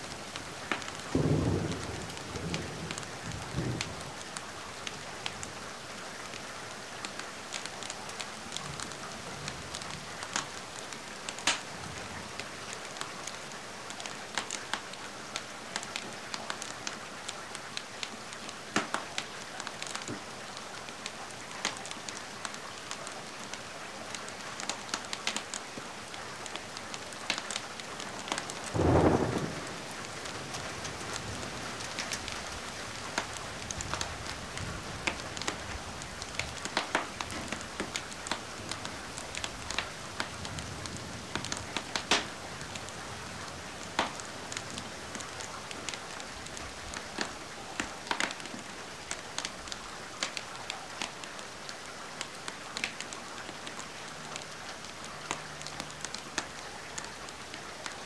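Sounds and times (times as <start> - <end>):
wood fire crackling: 0.0 - 5.5, 7.0 - 58.0
steady rain: 0.0 - 58.0.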